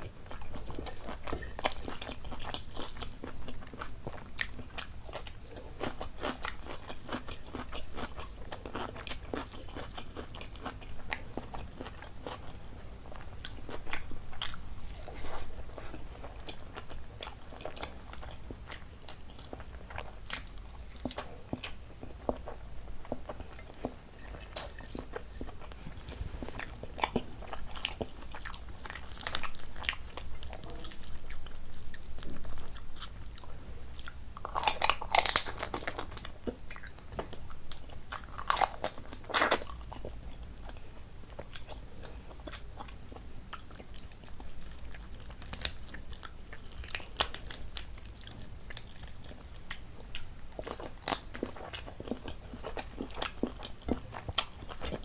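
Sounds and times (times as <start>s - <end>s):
person chewing with crisp crunches: 0.0s - 55.0s.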